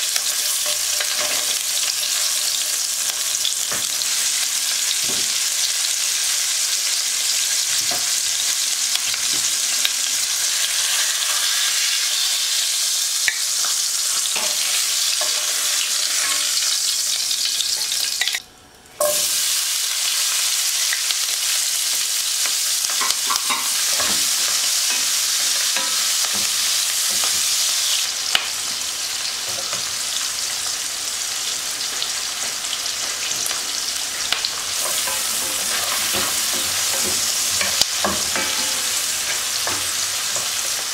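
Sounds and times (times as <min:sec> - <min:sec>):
chicken sizzling in a frying pan: 0:00.0 - 0:40.9
onion sizzling in a pan: 0:00.0 - 0:40.9.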